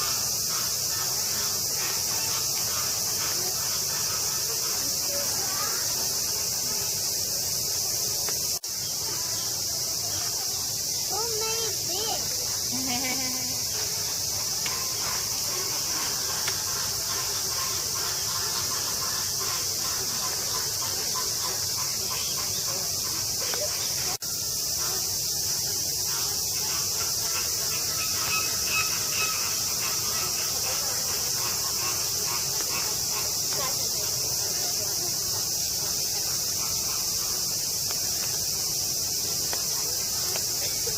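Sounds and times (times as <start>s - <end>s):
cicadas chorus: 0.0s - 40.9s.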